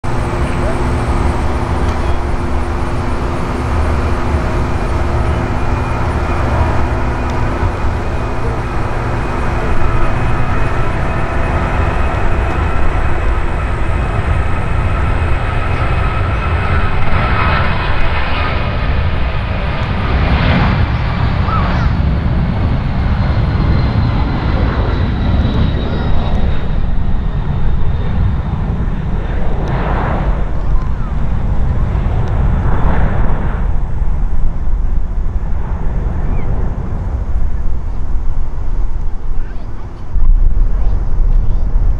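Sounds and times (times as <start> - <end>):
jet engines roaring at takeoff: 0.0 - 41.9.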